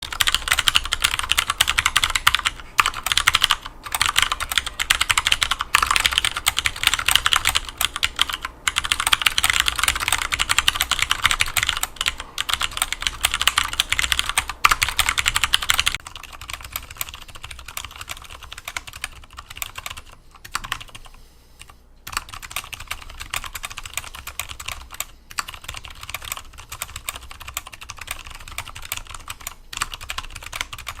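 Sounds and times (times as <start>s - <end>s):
fast typing on mechanical keyboard: 0.0s - 31.0s.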